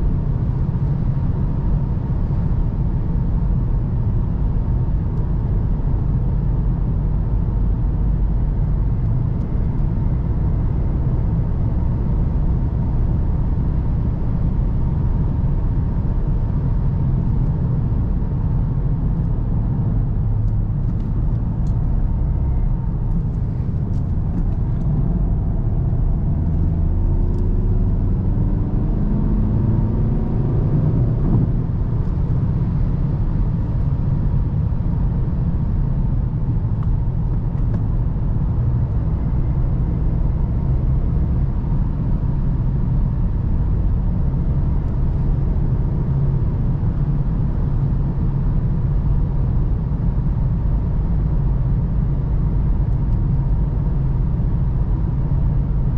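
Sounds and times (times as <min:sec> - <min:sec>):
diesel engine rumble: 0:00.0 - 0:55.9
road noise: 0:00.0 - 0:55.9.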